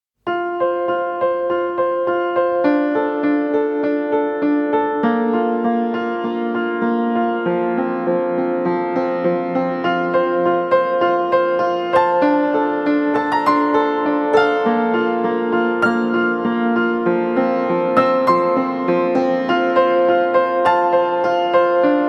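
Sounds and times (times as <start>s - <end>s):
electric piano music: 0.3s - 22.0s.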